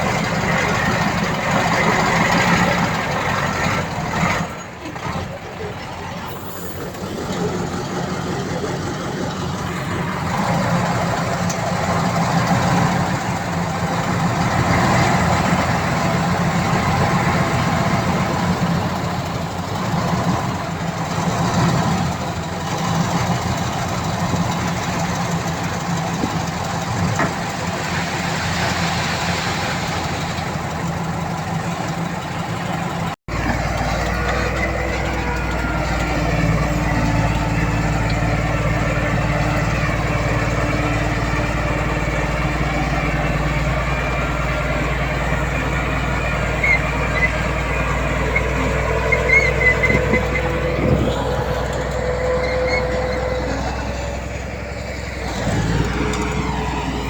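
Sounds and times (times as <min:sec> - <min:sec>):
heavy machinery diesel engine: 0:00.0 - 0:57.0
lower engine sound: 0:00.0 - 0:57.0.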